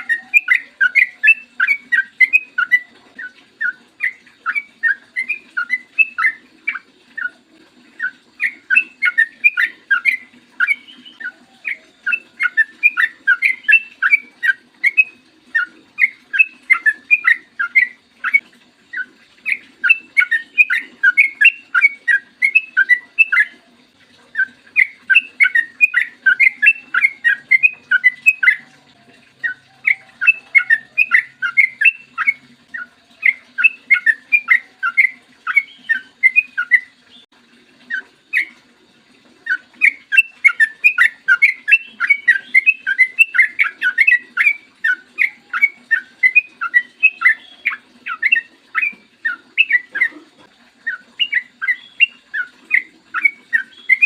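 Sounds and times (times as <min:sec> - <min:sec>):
bird singing whistled notes: 0:00.0 - 0:07.3, 0:08.0 - 0:23.6, 0:24.4 - 0:28.8, 0:29.4 - 0:37.3, 0:39.5 - 0:50.1, 0:50.8 - 0:54.0.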